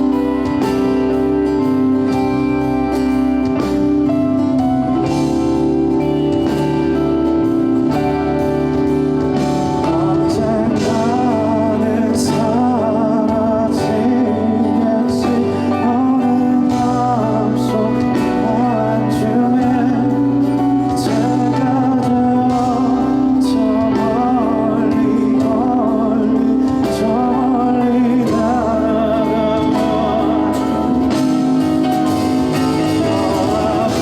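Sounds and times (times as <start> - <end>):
bass line: 0.0 - 34.0
live band playing pop ballad: 0.0 - 34.0.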